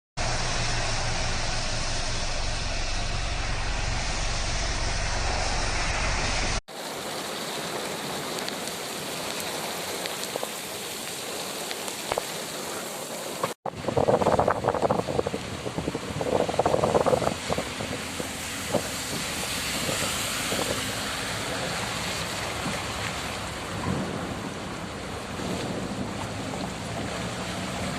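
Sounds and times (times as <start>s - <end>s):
heavy rain pouring: 0.2s - 27.9s.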